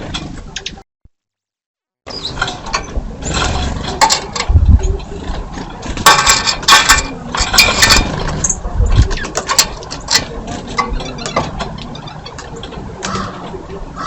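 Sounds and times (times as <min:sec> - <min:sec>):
birds pecking on feeder: 0:02.1 - 0:14.0.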